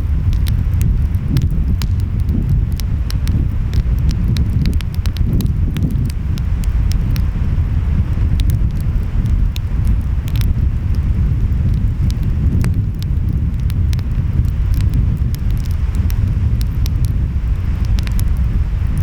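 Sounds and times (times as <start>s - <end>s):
wind: 0.0s - 19.0s
wood fire crackling and popping: 0.0s - 19.0s.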